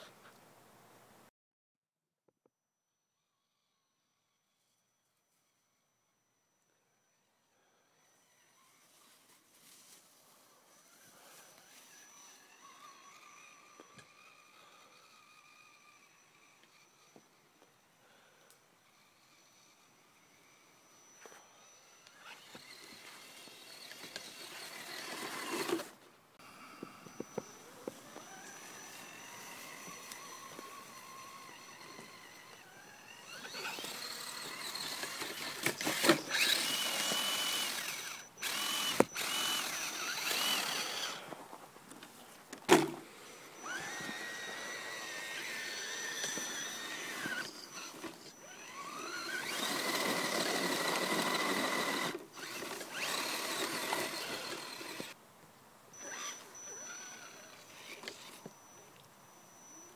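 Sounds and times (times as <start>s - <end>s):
electric motor and gears whining: 4.3s - 41.4s, 42.7s - 55.2s, 55.9s - 59.9s.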